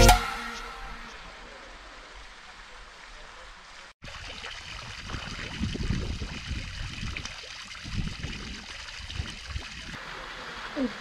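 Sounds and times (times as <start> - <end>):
fountain bubbling and splashing: 1.2 - 11.0.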